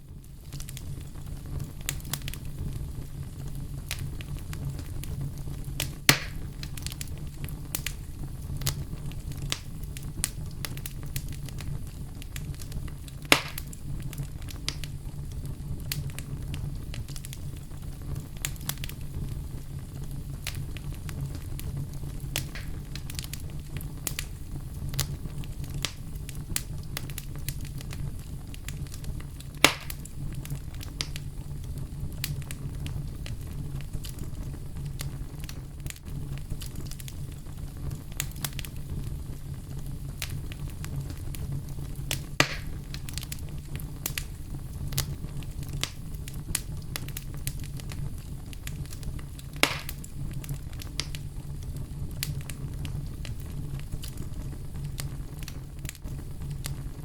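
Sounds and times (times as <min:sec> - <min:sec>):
campfire flames rumbling: 0:00.0 - 0:57.0
fire crackles: 0:00.0 - 0:57.0
sharp fire pops: 0:00.1 - 0:57.0.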